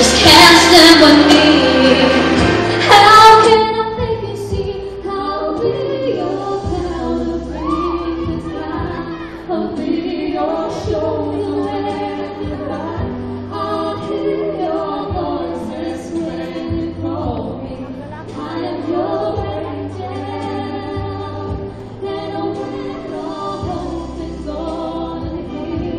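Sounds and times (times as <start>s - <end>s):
woman and man singing duet: 0.0s - 25.9s.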